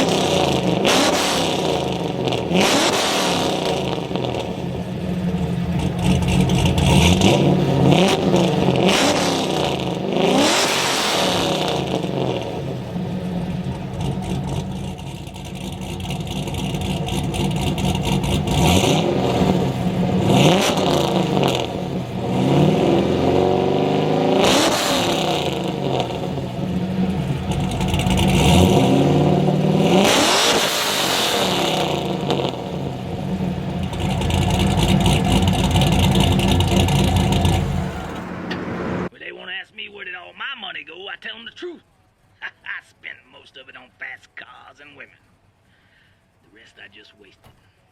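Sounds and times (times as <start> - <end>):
car engine revving: 0.0 - 39.1.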